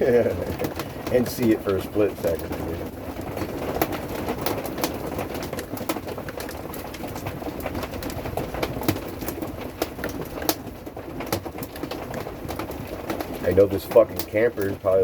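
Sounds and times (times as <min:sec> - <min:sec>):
hailstones hitting roof: 0:00.0 - 0:15.0
heavy rain drumming on a roof: 0:00.0 - 0:15.0.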